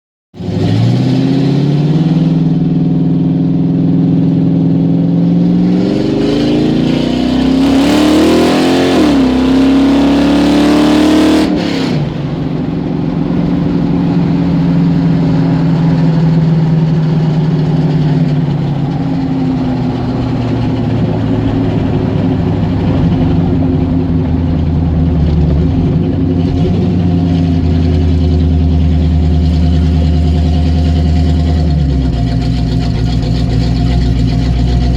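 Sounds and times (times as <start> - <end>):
car engine revving: 0.4 - 34.9.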